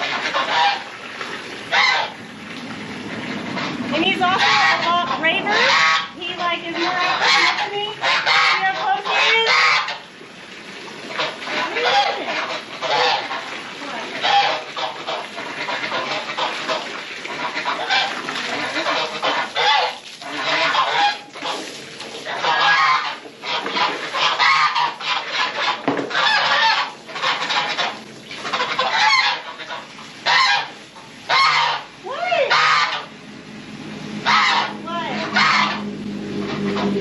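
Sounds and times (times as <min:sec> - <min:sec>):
geese honking: 0:00.0 - 0:01.0, 0:01.6 - 0:02.2, 0:03.2 - 0:10.2, 0:11.0 - 0:33.1, 0:34.2 - 0:37.0.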